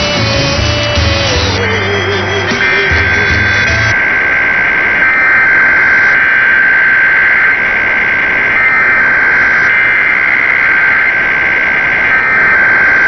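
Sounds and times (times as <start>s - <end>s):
digital data screech: 0.0s - 13.0s
radio static: 0.0s - 13.0s.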